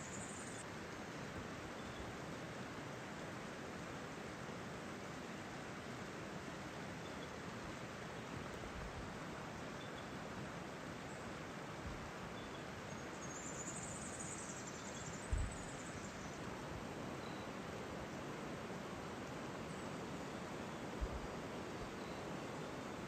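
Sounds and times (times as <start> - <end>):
river rushing: 0.1 - 23.0.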